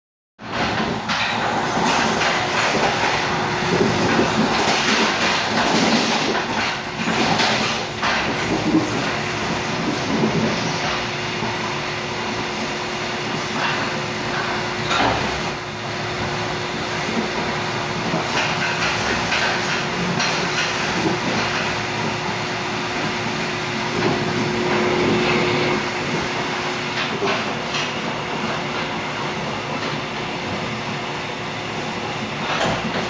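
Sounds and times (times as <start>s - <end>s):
train wheels rumbling on rail: 0.4s - 33.0s.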